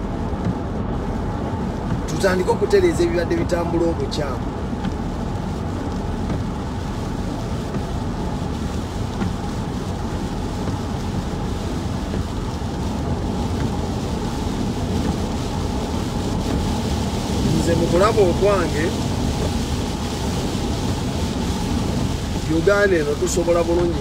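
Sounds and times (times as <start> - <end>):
road and engine noise in cabin: 0.0 - 24.0.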